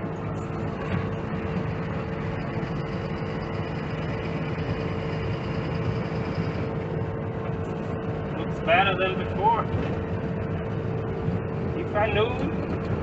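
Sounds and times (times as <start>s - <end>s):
constant whine: 0.0s - 13.0s
truck diesel engine running: 0.0s - 13.0s.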